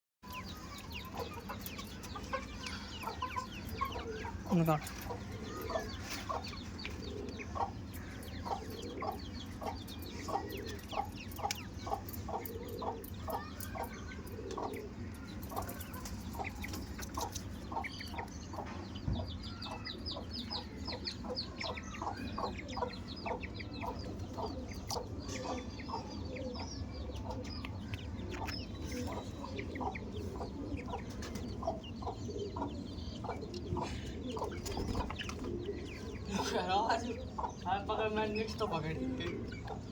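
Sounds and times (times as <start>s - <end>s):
birds clucking calls: 0.2s - 39.9s.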